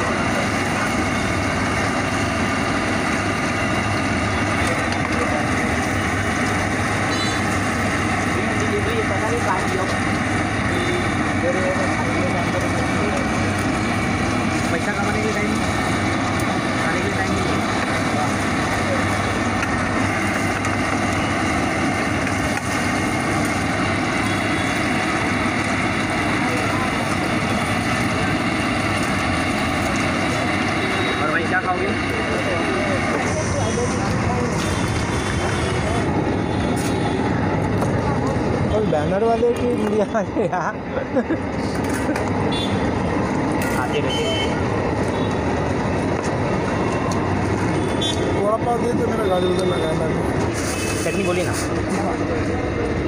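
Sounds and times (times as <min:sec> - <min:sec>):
hot oil sizzling: 0:00.0 - 0:53.0.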